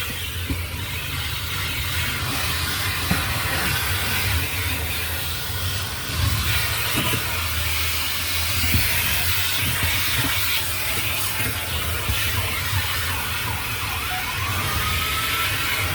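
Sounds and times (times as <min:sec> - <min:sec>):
spray hissing: 0:00.0 - 0:15.9.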